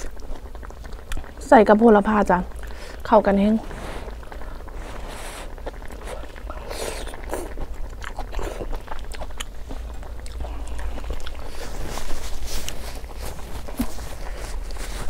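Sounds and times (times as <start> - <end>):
chewing with wet crunches: 0.0 - 15.0.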